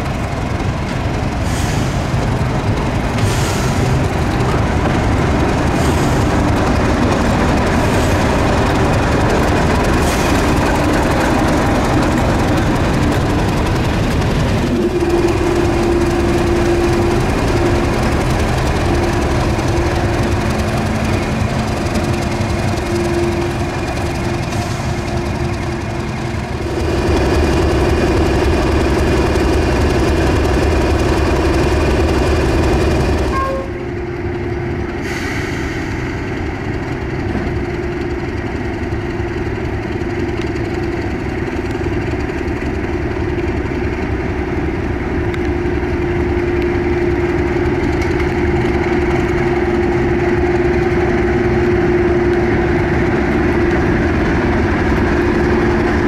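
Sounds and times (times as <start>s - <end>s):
diesel locomotive engine droning: 0.0s - 56.0s.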